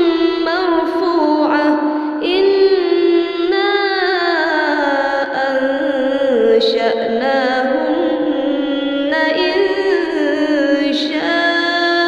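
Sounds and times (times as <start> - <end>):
woman reciting melodically: 0.0 - 12.0.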